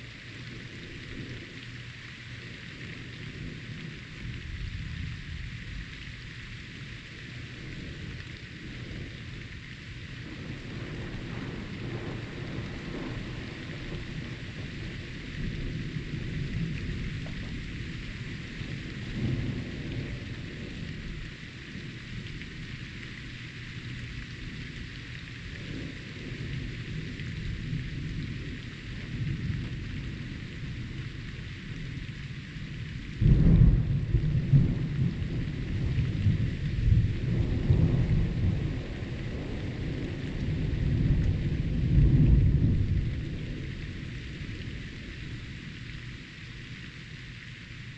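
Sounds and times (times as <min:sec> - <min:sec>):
steady rain: 0:00.0 - 0:47.9
low thunder rumbling: 0:00.1 - 0:01.7, 0:02.3 - 0:45.9.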